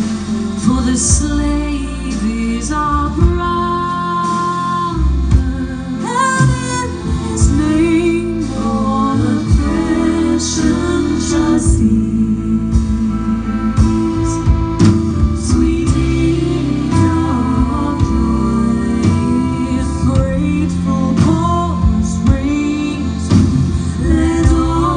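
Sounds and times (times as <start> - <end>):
double bass: 0.0 - 24.9
guitar: 0.0 - 24.9
female trio singing in harmony: 0.1 - 14.4, 15.3 - 24.9.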